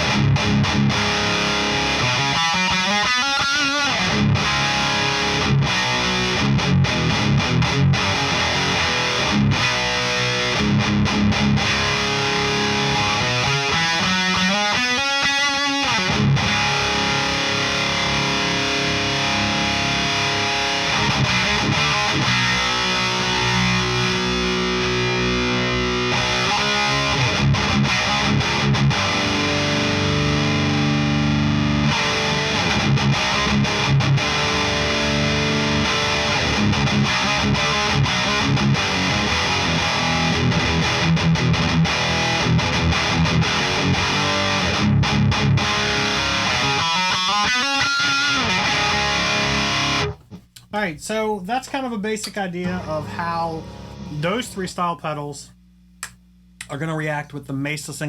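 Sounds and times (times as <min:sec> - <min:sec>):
distorted electric guitar: 0:00.0 - 0:50.6, 0:52.2 - 0:55.2.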